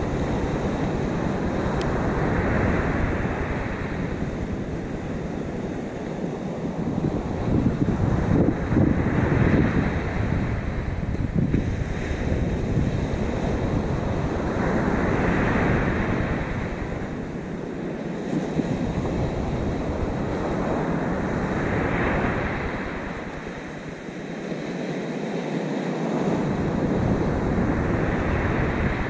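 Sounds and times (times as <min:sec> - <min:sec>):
surf breaking on shore: 0:00.0 - 0:29.0
wind buffeting microphone: 0:00.0 - 0:29.0.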